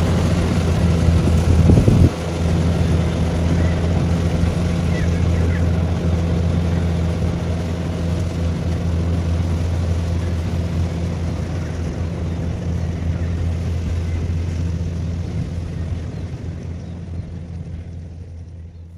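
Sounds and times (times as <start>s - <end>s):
combine harvester engine drone: 0.0s - 18.9s.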